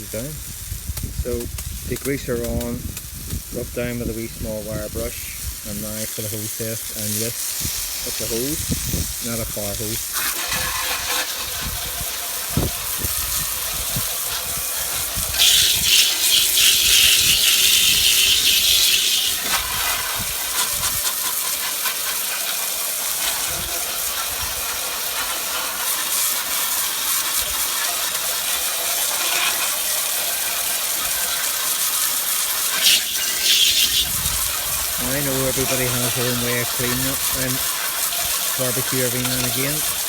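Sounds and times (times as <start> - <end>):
garden hose spraying water: 0.0 - 40.0.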